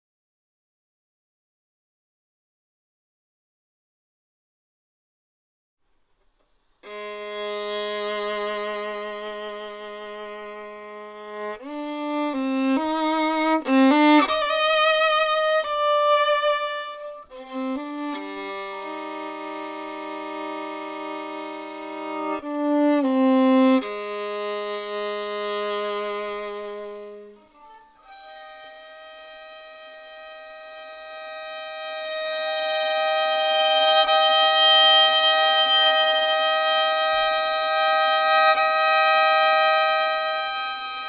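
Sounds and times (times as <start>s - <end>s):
solo violin: 6.8s - 41.0s.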